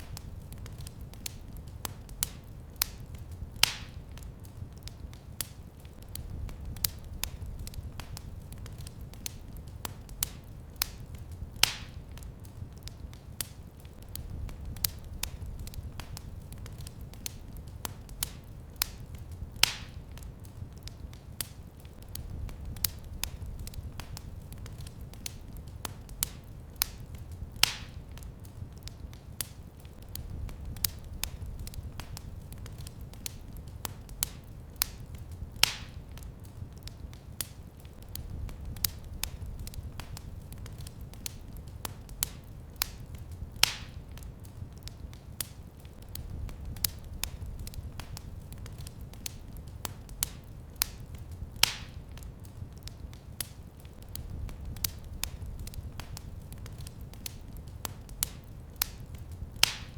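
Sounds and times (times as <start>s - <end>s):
low fire rumble: 0.0s - 59.9s
sharp fire pops: 0.0s - 59.9s
wood fire crackling: 0.0s - 59.9s.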